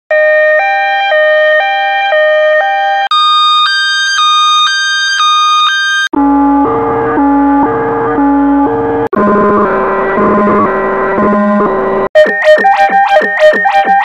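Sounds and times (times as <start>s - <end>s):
two-tone ambulance siren: 0.1s - 14.0s.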